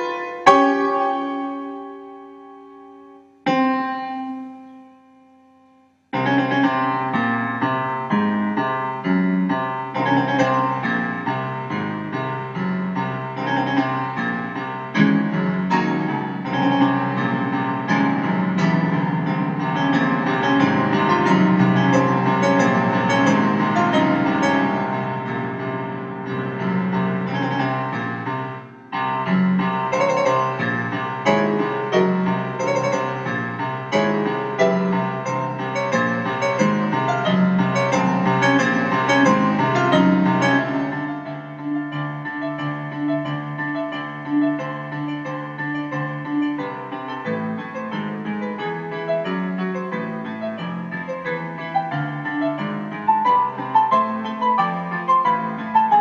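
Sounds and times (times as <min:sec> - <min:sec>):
contemporary classical piano music: 0:00.0 - 0:56.0.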